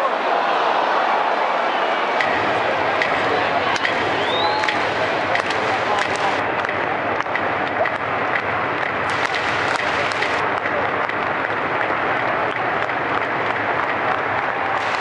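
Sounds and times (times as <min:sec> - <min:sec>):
large crowd applauding: 0:00.0 - 0:15.0.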